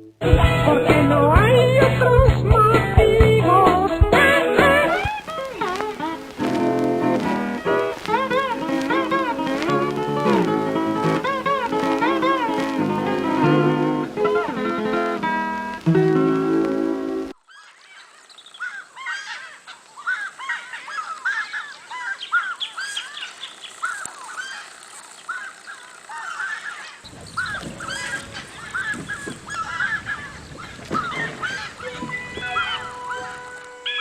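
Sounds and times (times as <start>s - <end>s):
low background noise: 0.0s - 34.0s
flock of birds honking: 4.6s - 17.7s, 18.6s - 34.0s.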